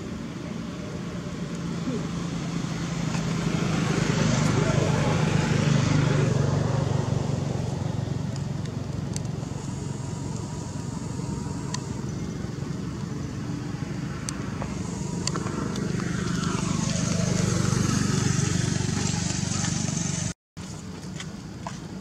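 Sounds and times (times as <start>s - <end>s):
motor humming: 1.1s - 20.3s.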